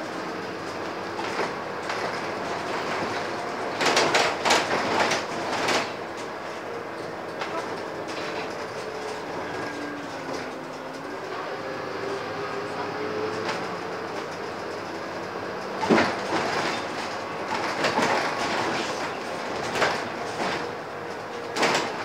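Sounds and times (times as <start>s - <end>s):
bus body rattling and clattering: 0.0s - 22.0s
bus engine drone: 0.0s - 22.0s.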